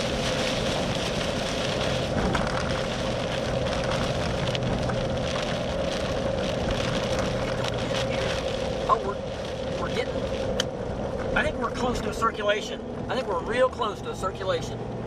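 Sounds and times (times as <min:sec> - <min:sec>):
rain ticking on vehicle body: 0:00.0 - 0:13.7
vehicle engine and road hum: 0:00.0 - 0:15.0.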